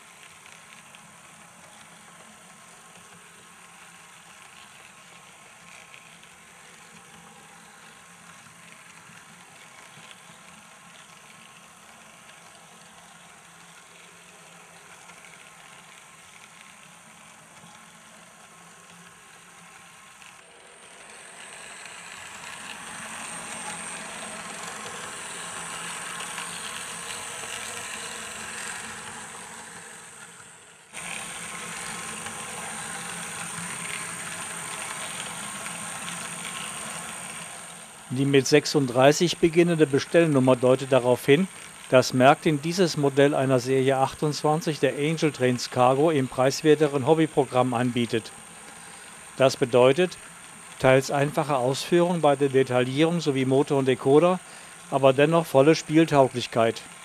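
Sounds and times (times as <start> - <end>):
model locomotive motor and wheels: 0.0 - 57.0
thin high-pitched whine: 0.0 - 57.0.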